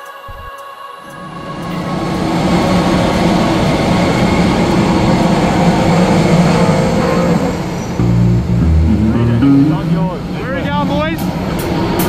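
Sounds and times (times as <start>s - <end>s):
jet and airport machinery: 1.1s - 12.0s.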